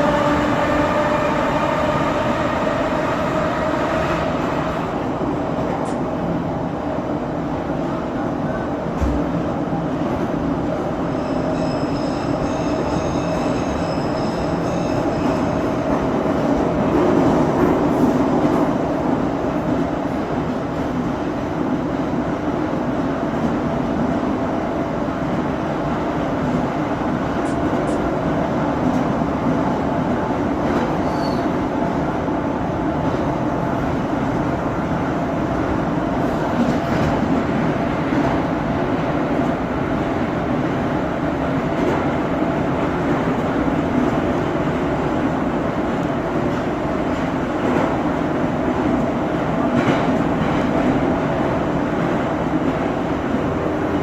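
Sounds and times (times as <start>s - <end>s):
subway train rumbling through tunnel: 0.0s - 54.0s.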